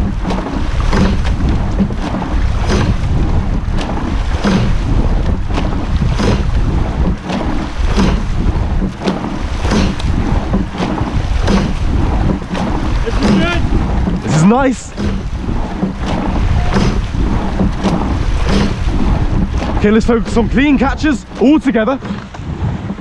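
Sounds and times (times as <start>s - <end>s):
oar blades splashing: 0.0s - 23.0s
oars knocking in gates: 0.0s - 23.0s
wind rumble on microphone: 0.0s - 23.0s.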